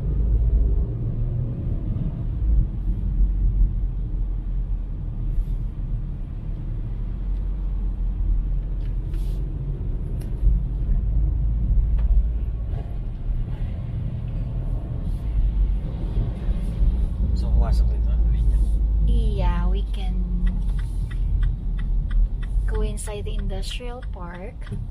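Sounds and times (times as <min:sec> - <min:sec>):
car road noise low rumble: 0:00.0 - 0:24.9.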